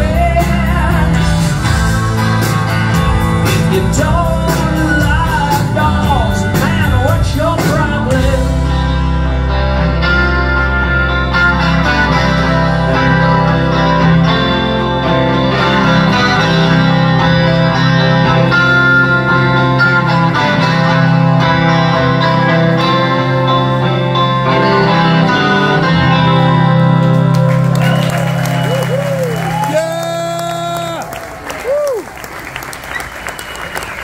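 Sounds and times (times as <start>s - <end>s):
live rock band with electric guitars: 0.0s - 34.0s.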